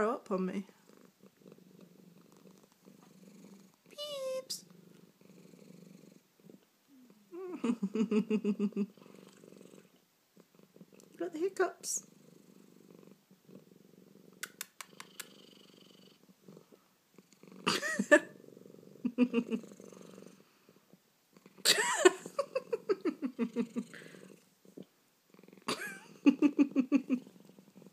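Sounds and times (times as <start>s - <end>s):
cat purring: 0.0s - 27.9s.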